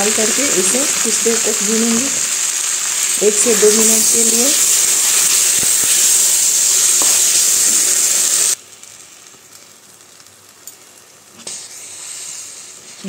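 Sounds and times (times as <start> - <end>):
paste sizzling in butter: 0.0 - 10.3, 10.9 - 13.0.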